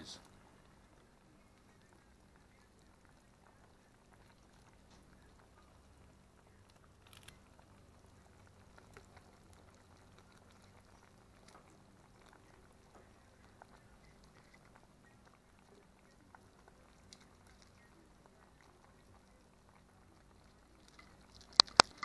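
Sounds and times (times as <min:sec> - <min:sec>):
pot bubbling: 0:00.0 - 0:22.0.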